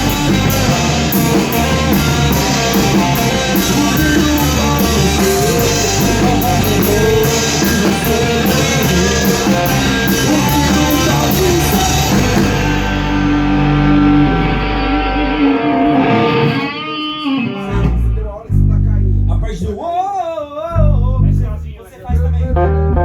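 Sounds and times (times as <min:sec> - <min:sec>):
drum kit with cymbal hits: 0:00.0 - 0:18.8
distorted electric guitars: 0:00.0 - 0:19.7, 0:22.1 - 0:23.0.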